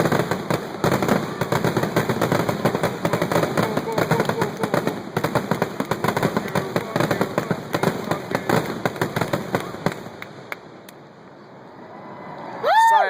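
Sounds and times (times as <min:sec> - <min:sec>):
fireworks crackling and banging: 0:00.0 - 0:11.4.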